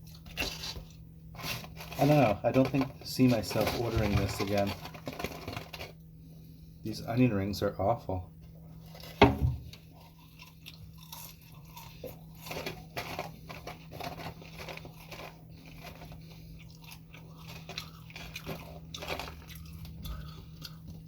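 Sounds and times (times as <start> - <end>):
crunchy chewing: 0.0 - 6.0, 8.8 - 21.0.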